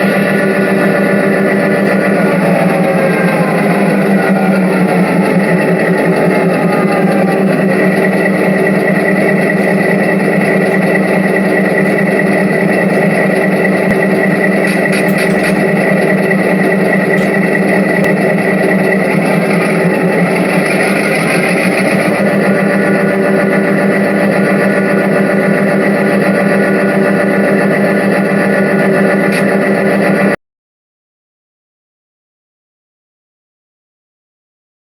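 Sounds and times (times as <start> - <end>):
diesel locomotive engine idling: 0.0 - 30.4.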